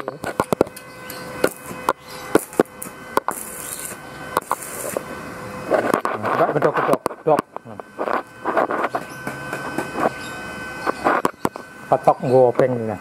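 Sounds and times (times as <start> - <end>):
arc welding cracks and pops: 0.0 - 12.8
welding arc hissing: 0.0 - 13.0.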